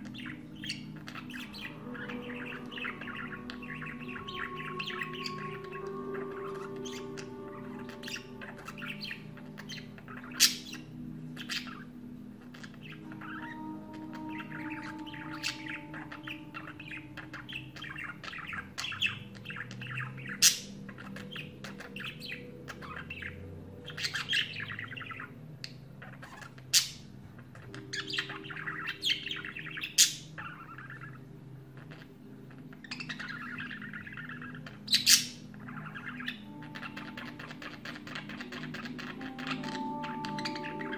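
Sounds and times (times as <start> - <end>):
budgerigar warbling: 0.0 - 25.4, 26.0 - 40.9
sharp bird chirps: 0.0 - 40.9.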